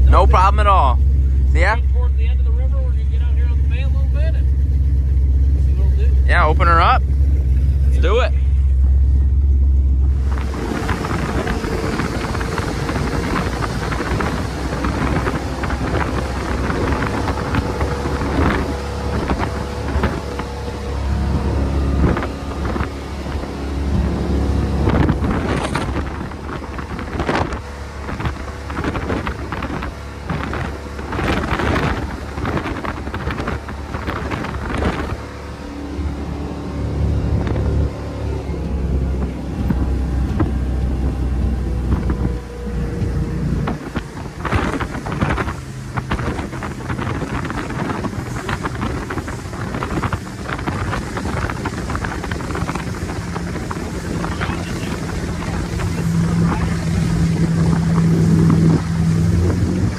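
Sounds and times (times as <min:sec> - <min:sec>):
powerboat engine drone: 0:00.0 - 0:59.9
wind noise on microphone: 0:09.9 - 0:59.9.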